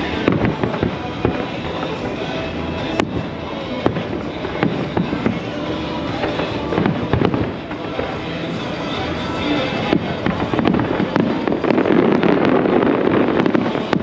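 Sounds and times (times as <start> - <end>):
fireworks rumble and crackle: 0.0 - 14.0
sharp firework bangs: 0.0 - 14.0.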